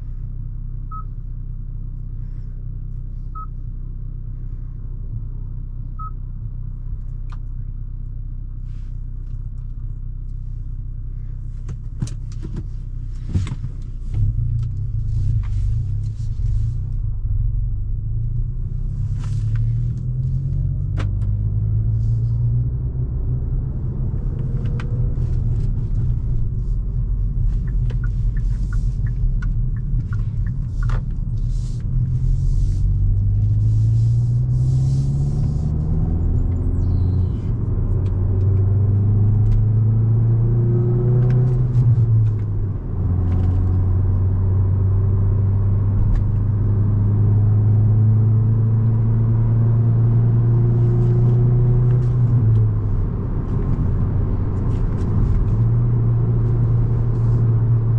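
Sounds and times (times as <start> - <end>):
road rumble: 0.0 - 57.9
car engine accelerating: 11.2 - 57.9.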